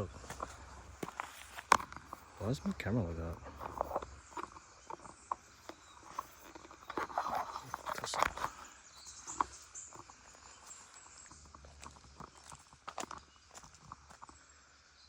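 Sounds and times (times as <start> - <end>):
footsteps crunching on dry trail: 0.0 - 14.7.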